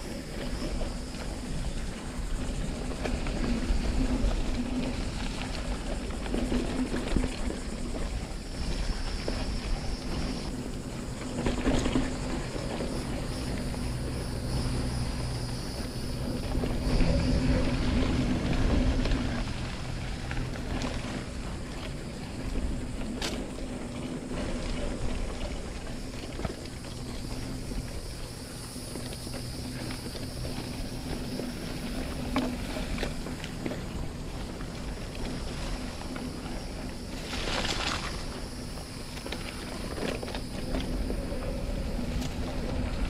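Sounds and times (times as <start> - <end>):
bike tyre and drivetrain noise: 0.0 - 43.0
wind on microphone: 0.0 - 43.0.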